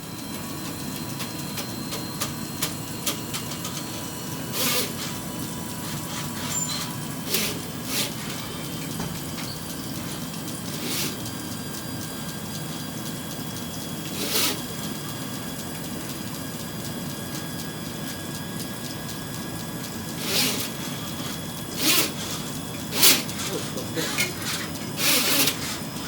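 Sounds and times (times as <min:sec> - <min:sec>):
drain cleaner cable spinning: 0:00.0 - 0:16.2, 0:19.4 - 0:26.0.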